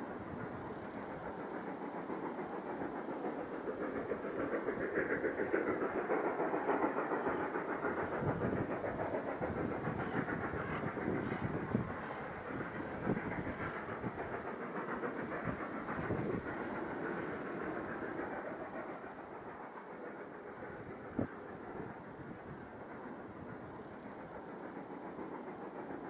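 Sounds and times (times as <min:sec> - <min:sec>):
steam locomotive exhaust chuffs: 0:00.0 - 0:26.0.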